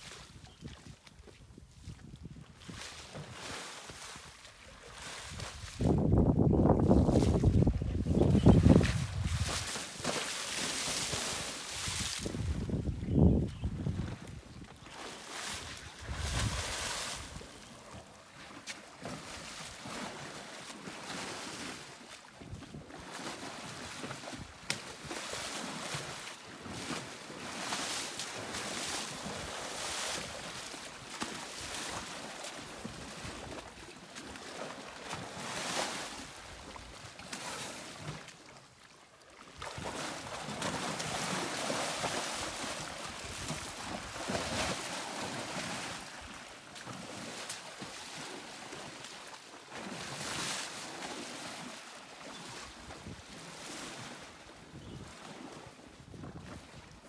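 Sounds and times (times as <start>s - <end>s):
elephant splashing in water: 2.6s - 6.1s, 6.8s - 12.8s, 13.6s - 38.7s, 39.3s - 56.8s.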